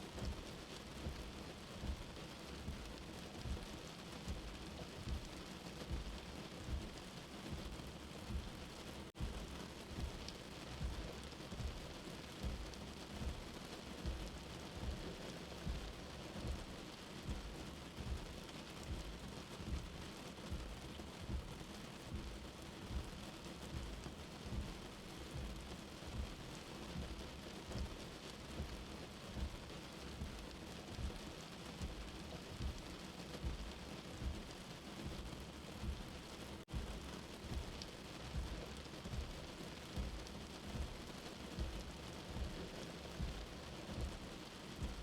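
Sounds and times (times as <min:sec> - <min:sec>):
steady rain hiss: 0:00.0 - 0:45.0
soft heartbeat thumping: 0:00.1 - 0:45.0.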